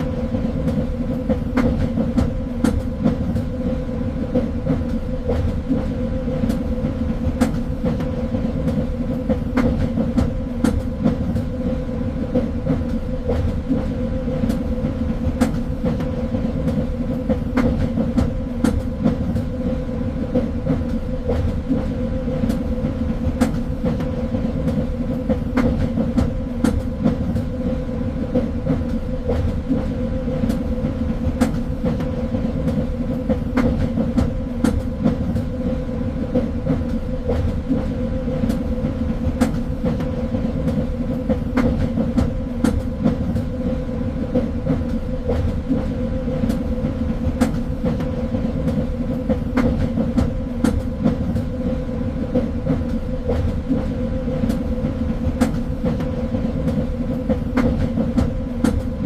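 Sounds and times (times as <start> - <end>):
train rumbling on track: 0.0 - 59.0.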